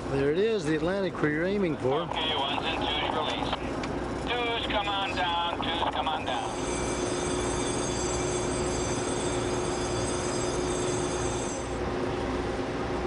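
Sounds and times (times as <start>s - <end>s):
machinery hum and rumble: 0.0s - 13.0s.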